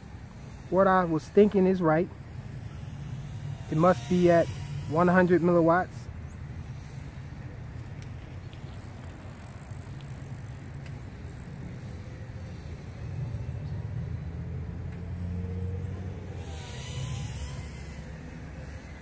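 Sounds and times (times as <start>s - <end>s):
low steady rumble: 0.0s - 19.0s
quadcopter motor whine: 0.0s - 19.0s.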